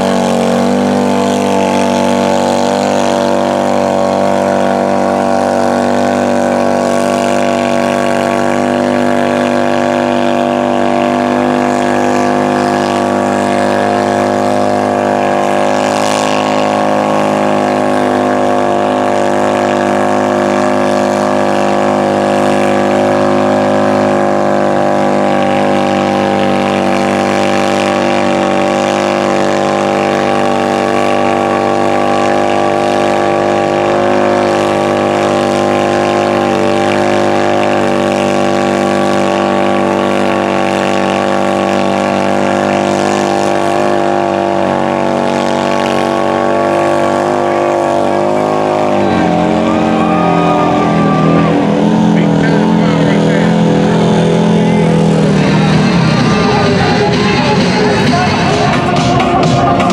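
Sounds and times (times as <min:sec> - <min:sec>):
tires churning through mud: 0:00.0 - 0:59.9
utility vehicle engine running: 0:00.0 - 0:59.9.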